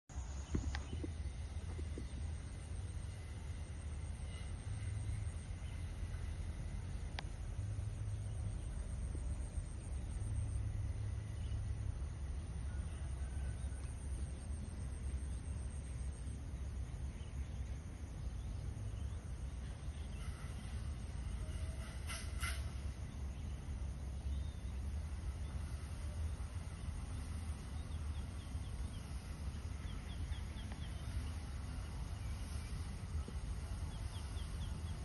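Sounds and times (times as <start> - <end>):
steady low rumble: 0.1 - 21.8, 22.8 - 35.0
faint thin high whine: 0.1 - 35.0.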